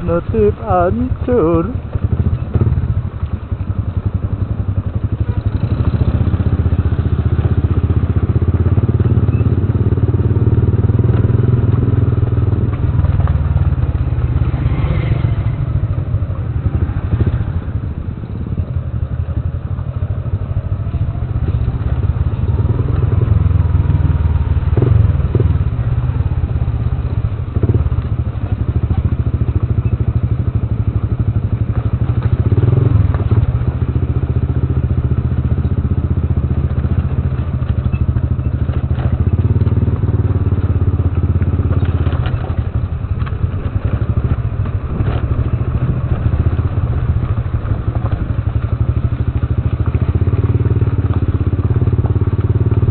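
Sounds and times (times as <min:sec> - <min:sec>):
motorcycle engine droning: 0:00.0 - 0:52.9.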